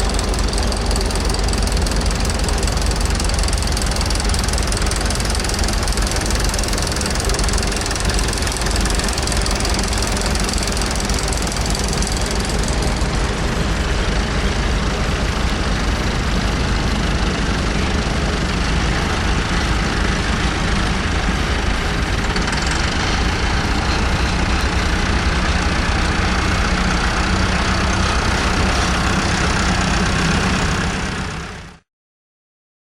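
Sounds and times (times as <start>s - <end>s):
tractor engine idling: 0.0s - 31.8s.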